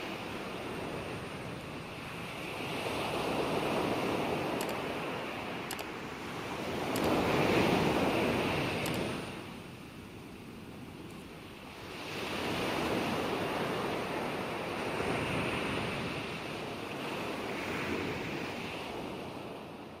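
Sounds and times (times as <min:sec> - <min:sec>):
ocean surf washing on beach: 0:00.0 - 0:20.0.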